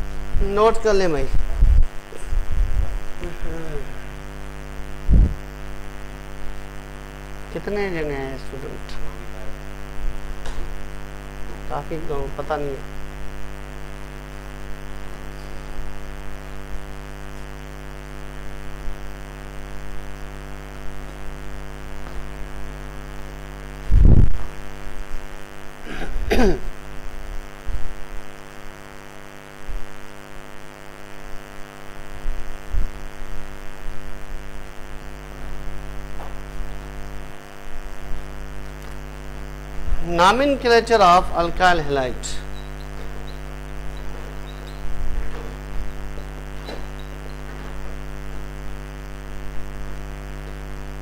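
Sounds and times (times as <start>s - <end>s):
electrical mains hum: 0.0s - 51.0s.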